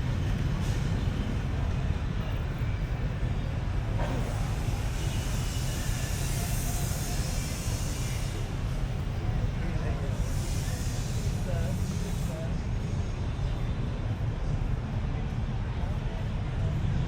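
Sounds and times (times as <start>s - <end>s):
low rumble of vehicles: 0.0s - 17.0s.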